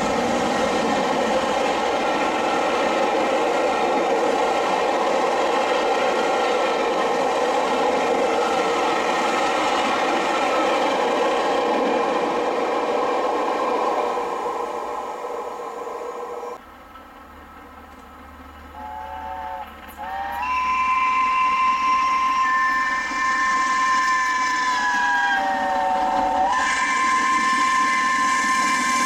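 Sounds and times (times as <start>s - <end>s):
train wheels clattering on rails: 0.0s - 14.2s, 16.6s - 29.0s.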